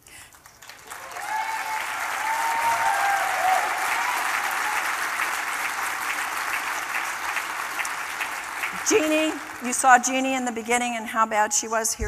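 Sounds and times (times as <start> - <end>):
audience applauding: 0.3 - 10.6.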